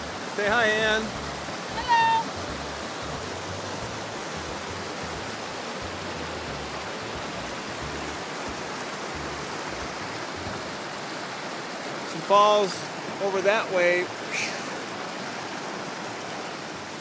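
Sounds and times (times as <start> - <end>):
waterfall and creek rushing: 0.0 - 17.0.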